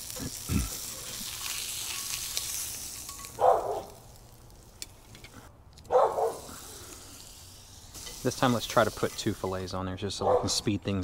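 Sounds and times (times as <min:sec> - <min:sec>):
fish sizzling in butter: 0:00.0 - 0:05.4, 0:06.1 - 0:09.8.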